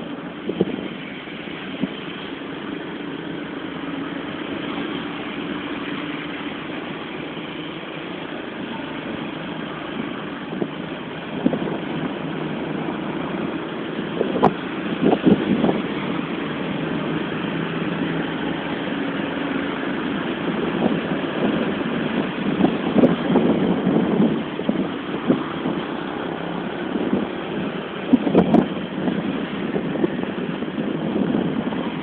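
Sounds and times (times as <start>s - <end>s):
vehicle running with road noise: 0.0s - 32.0s.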